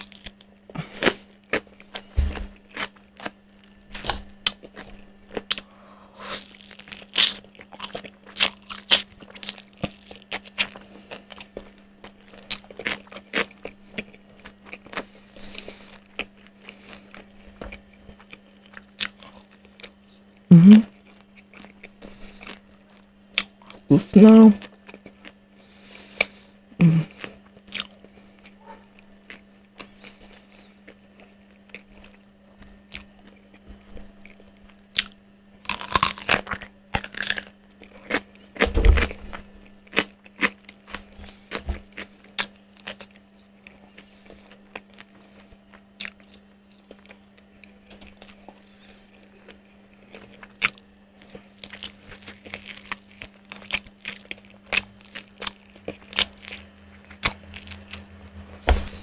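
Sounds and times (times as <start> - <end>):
chewing crispy fried chicken: 0.0 - 59.0
steady low hum: 0.0 - 59.0.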